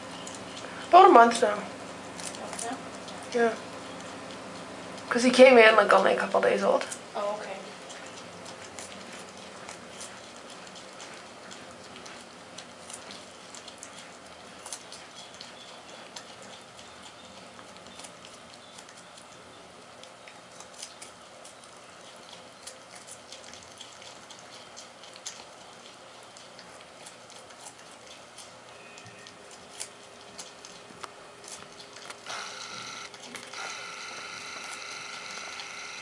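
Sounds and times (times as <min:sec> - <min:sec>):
porcupine chewing carrot: 0:00.0 - 0:36.0.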